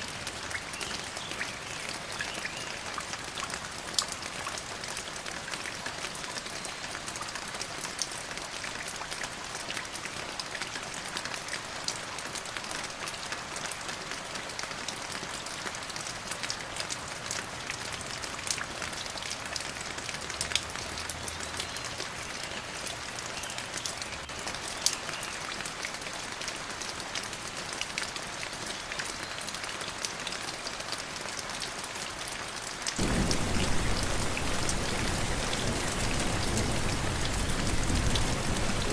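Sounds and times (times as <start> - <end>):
rain drops ticking: 0.0 - 38.9.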